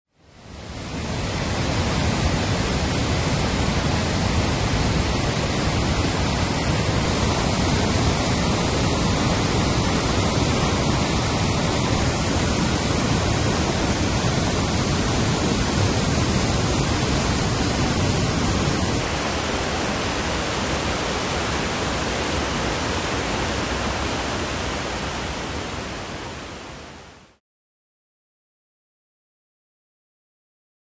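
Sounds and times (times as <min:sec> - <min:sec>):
waterfall rushing over rocks: 0:00.2 - 0:27.4.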